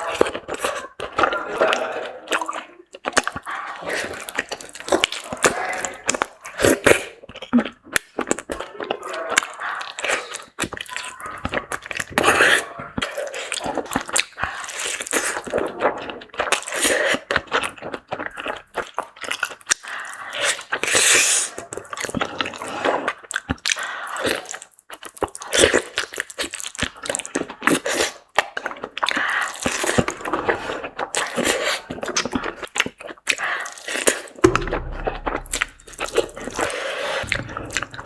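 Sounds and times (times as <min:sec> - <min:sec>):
wet chewing and mouth smacking: 0:00.0 - 0:38.0.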